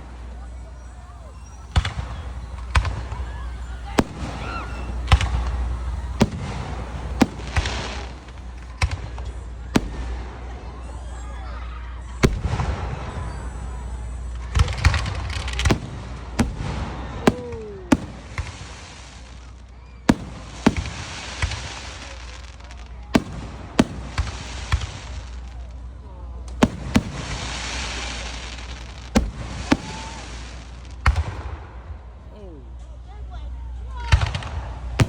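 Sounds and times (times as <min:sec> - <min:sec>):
falling firework whistle: 0:00.0 - 0:25.7, 0:26.6 - 0:31.4
fireworks bangs: 0:00.0 - 0:32.3, 0:34.0 - 0:35.0
fireworks crackling hiss: 0:00.0 - 0:32.9.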